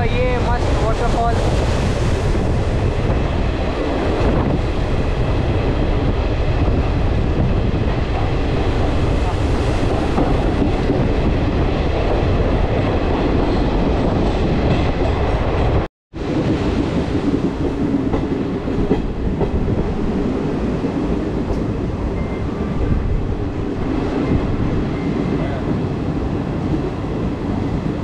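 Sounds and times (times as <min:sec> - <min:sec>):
train wheels on rail: 0:00.0 - 0:28.0.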